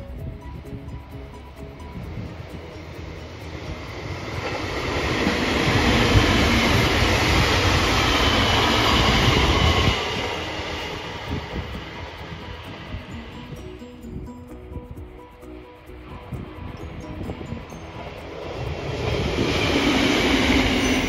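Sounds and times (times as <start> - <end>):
train passing on rails: 0.0 - 21.0.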